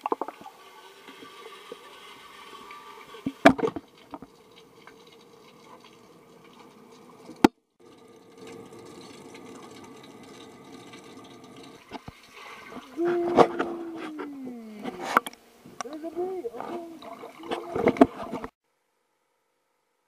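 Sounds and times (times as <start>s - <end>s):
underwater hum: 0.0s - 18.5s.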